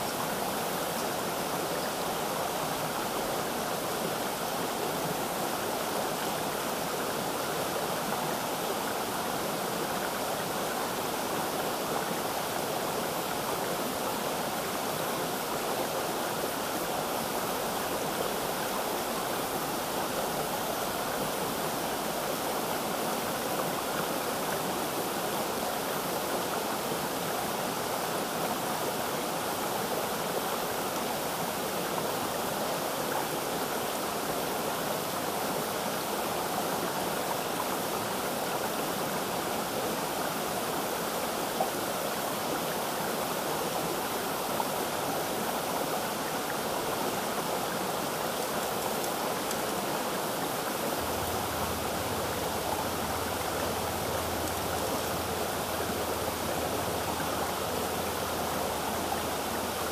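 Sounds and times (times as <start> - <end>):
waterfall and stream rushing: 0.0 - 59.9.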